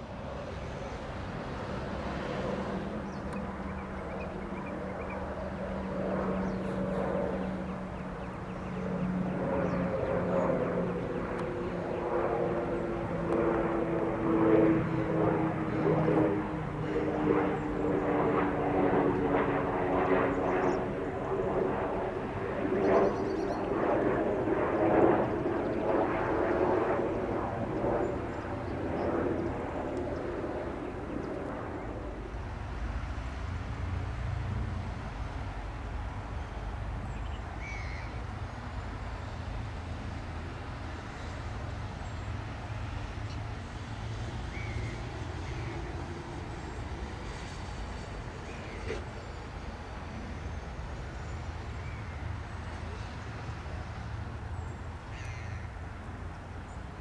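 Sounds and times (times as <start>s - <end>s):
turboprop engine and propeller drone: 0.0s - 57.0s.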